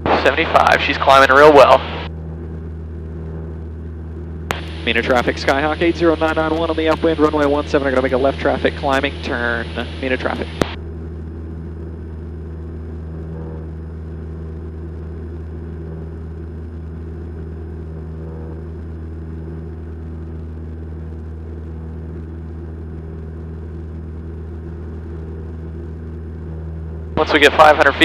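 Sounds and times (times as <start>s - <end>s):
propeller plane engine droning: 0.0s - 28.0s.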